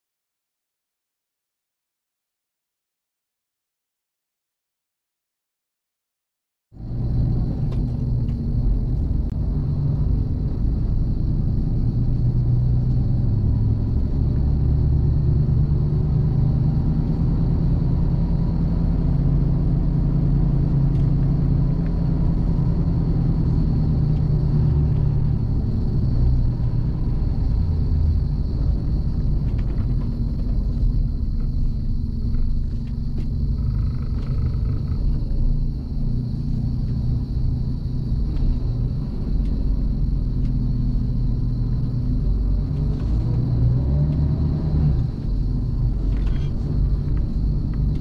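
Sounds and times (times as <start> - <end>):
road rumble: 6.7 - 48.0
truck diesel engine drone: 6.8 - 48.0.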